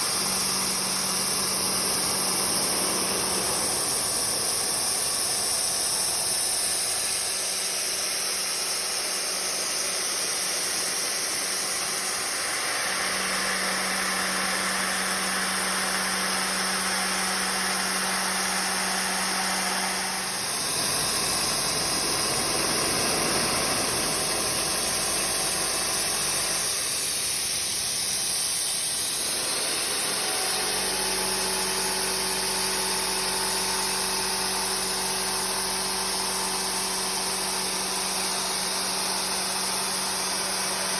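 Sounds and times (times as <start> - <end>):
milling machine cutting steel: 0.0 - 40.9.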